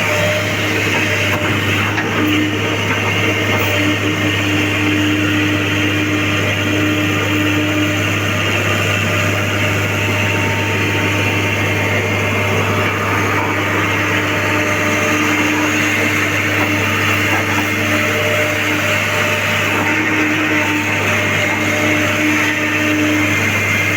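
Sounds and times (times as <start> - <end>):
excavator diesel engine humming: 0.0 - 23.9.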